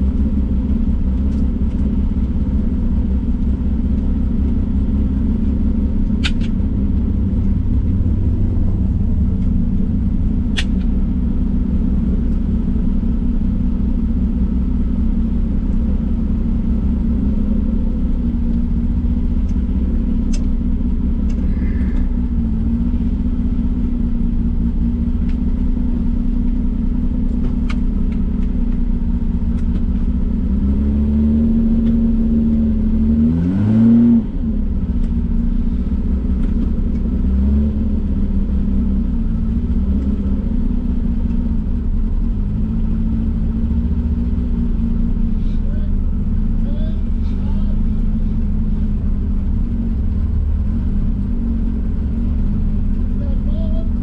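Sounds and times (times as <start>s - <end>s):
racing car engine running: 0.0s - 54.0s.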